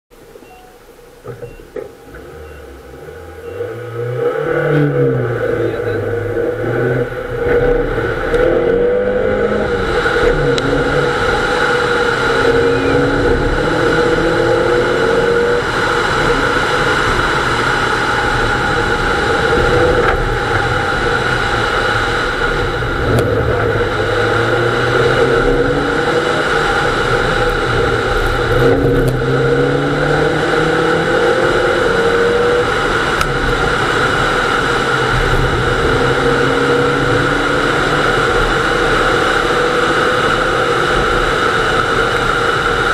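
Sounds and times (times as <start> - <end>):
road and wind noise: 0.1 - 42.9
car engine accelerating: 1.1 - 42.9.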